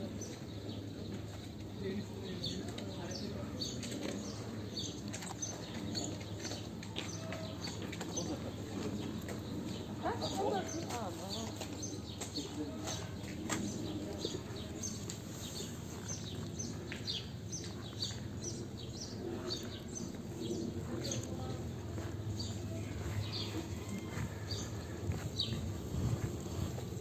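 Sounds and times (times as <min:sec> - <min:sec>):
low background murmur: 0:00.0 - 0:27.0
small birds chirping: 0:00.0 - 0:27.0.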